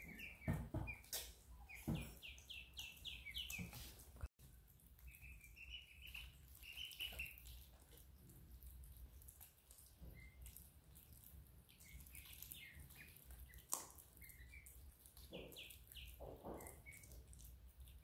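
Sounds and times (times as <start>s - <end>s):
young animals peeping and chirping: 0.0s - 18.0s.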